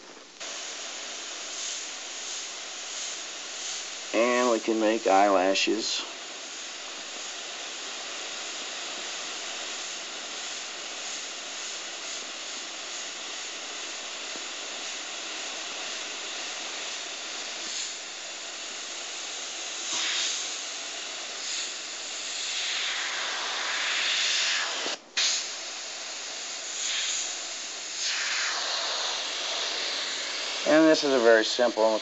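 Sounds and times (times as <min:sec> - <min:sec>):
airbrush puffs: 0:00.0 - 0:32.0
airbrush spraying hiss: 0:00.0 - 0:32.0.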